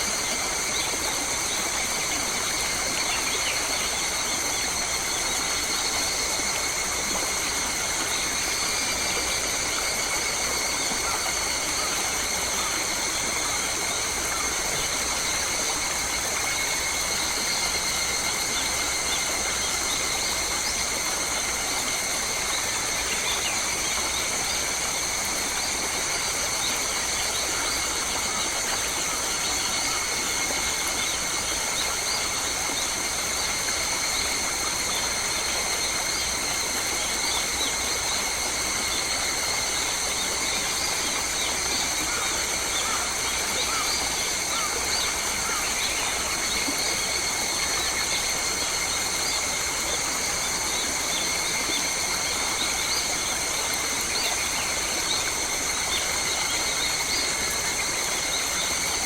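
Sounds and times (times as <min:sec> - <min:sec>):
insect chorus droning: 0:00.0 - 0:59.0.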